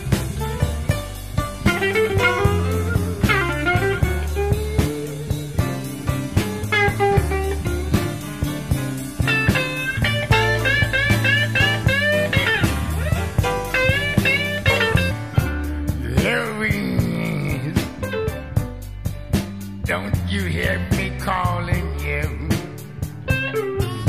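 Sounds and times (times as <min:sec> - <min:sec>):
electric guitar bent notes: 0:00.0 - 0:19.2, 0:22.5 - 0:24.0
blues band playing instrumental: 0:00.0 - 0:24.0.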